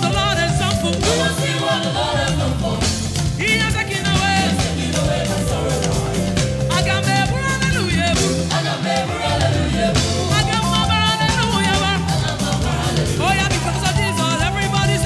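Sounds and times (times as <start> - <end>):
drum kit and band: 0.0 - 15.0
voices singing gospel: 0.0 - 15.0.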